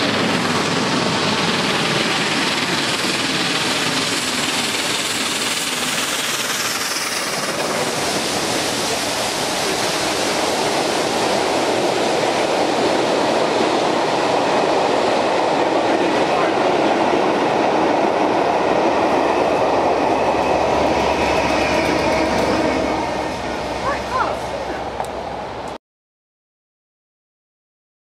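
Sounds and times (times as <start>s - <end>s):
coach wheels rumbling on rails: 0.0s - 25.8s
steam locomotive exhaust: 0.0s - 25.8s.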